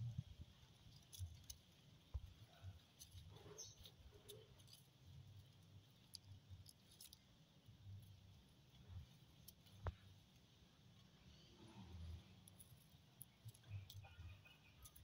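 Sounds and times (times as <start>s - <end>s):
soft ticks and rustles: 0.0s - 15.0s.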